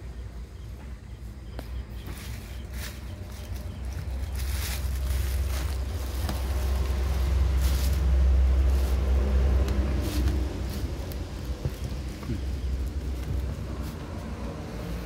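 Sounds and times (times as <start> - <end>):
low wind-like fan rumble: 0.0 - 15.0.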